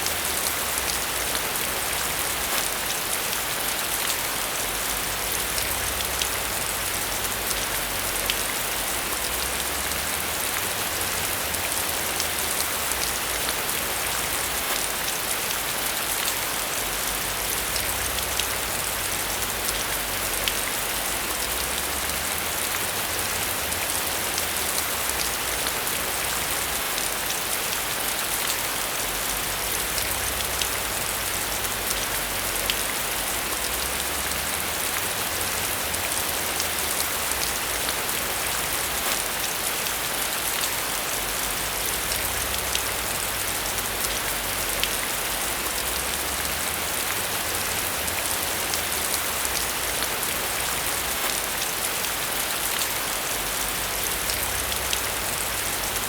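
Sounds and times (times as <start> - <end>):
heavy rain on a surface: 0.0 - 56.0.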